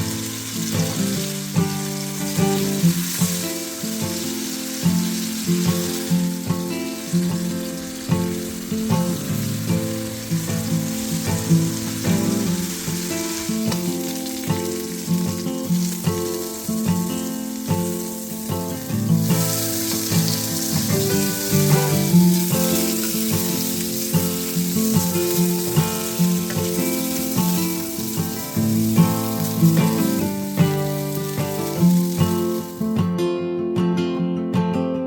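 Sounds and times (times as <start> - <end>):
food sizzling in oil: 0.0 - 33.2.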